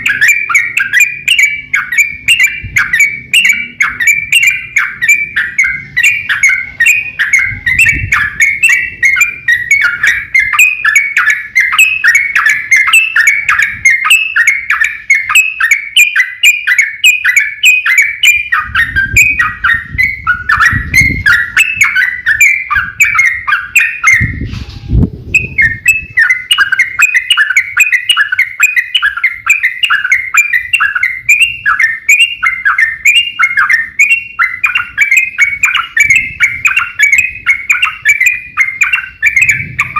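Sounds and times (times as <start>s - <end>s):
bulbul singing fast chatter: 0.0s - 39.9s.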